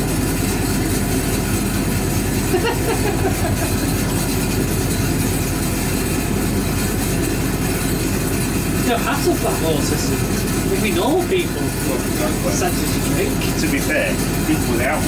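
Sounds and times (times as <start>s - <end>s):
constant hum: 0.0s - 15.0s
washing machine rumbling: 0.0s - 15.0s.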